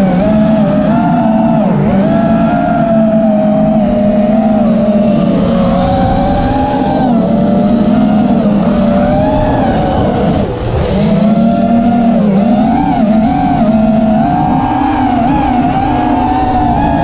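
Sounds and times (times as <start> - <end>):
quadcopter motors whining: 0.0 - 17.0
rushing wind: 0.0 - 17.0.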